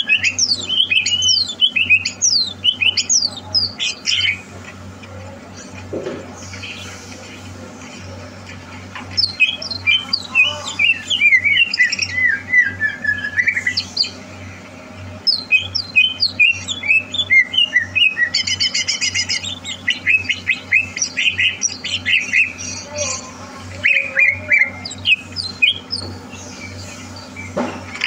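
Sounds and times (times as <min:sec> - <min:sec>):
bird singing: 0:00.0 - 0:04.5, 0:09.0 - 0:28.0
steady low hum: 0:00.0 - 0:28.0.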